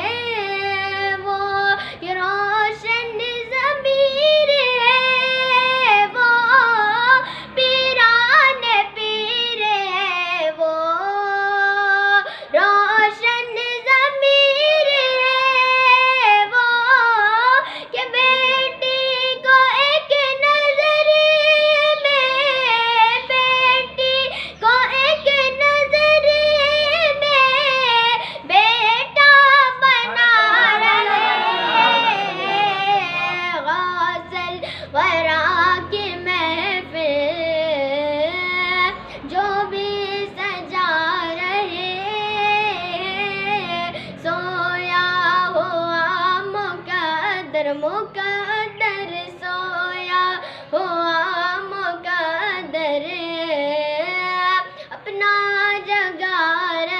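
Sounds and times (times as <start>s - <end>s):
boy singing devotional song: 0.0s - 56.9s.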